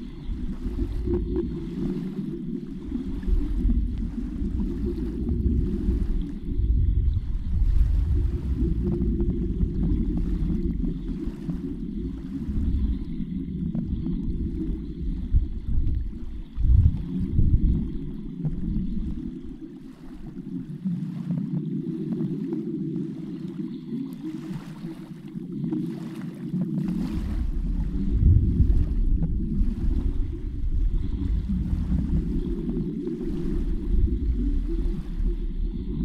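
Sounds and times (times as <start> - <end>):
low water surge: 0.0 - 36.0
underwater rushing rumble: 0.0 - 36.0.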